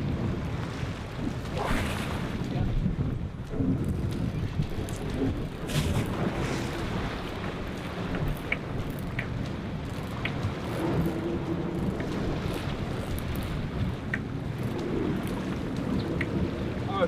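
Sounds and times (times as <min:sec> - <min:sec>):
boat engine rumble: 0:00.0 - 0:17.0
water against hull: 0:00.0 - 0:17.0
wind: 0:00.0 - 0:17.0.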